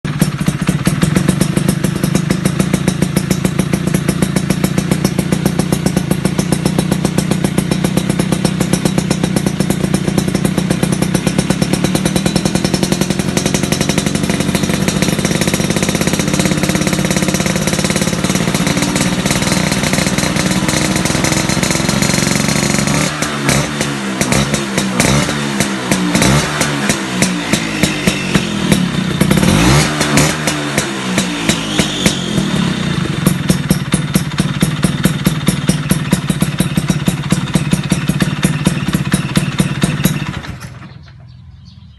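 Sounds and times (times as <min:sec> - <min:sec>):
scooter engine idling: 0:00.0 - 0:41.9
scooter engine revving: 0:00.0 - 0:41.9.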